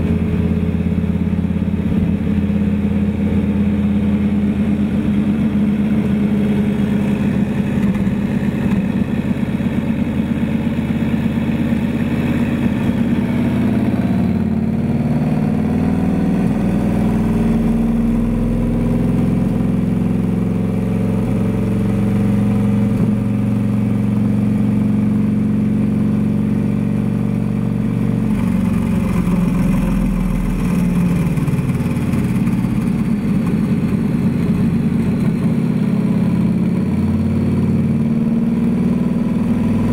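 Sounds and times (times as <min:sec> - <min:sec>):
motorcycle engine running on dyno: 0:00.0 - 0:39.9.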